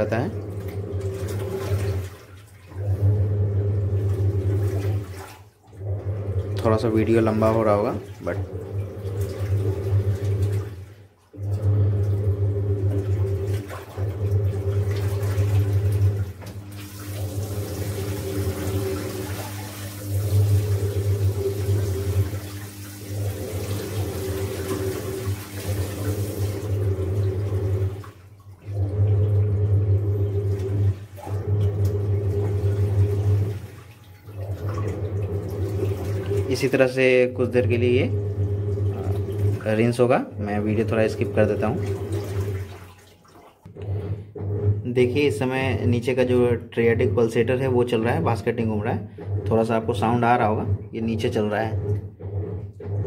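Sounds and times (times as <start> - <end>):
washing machine motor hum: 0.0 - 53.0
water churning and sloshing: 0.0 - 53.0.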